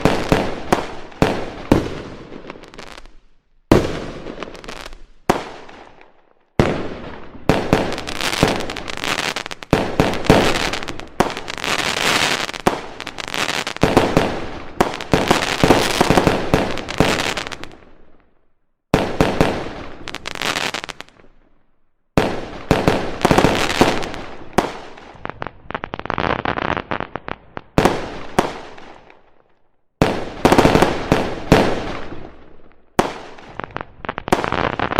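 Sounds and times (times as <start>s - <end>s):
fireworks bangs and crackling: 0.0s - 18.3s, 18.9s - 21.6s, 22.2s - 34.9s.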